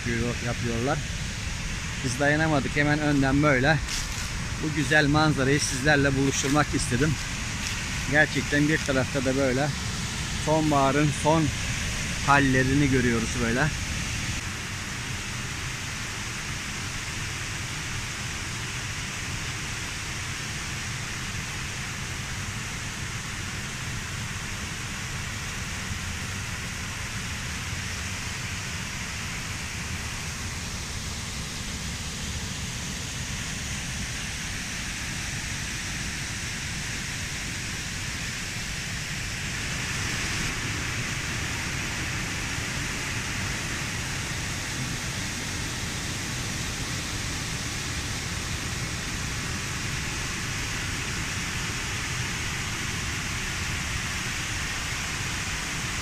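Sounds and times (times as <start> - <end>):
waterfall rushing into a pool: 0.0 - 56.0.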